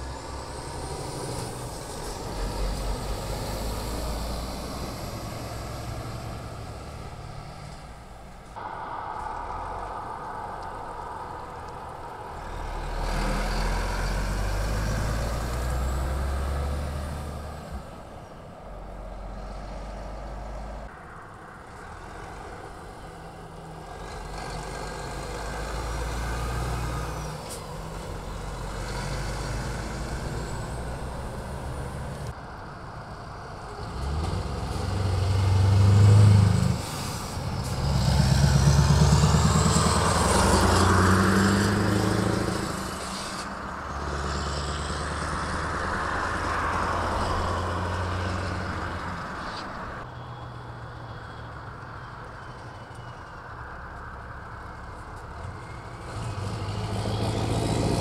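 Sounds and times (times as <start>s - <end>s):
diesel trucks driving past: 0.0s - 58.0s.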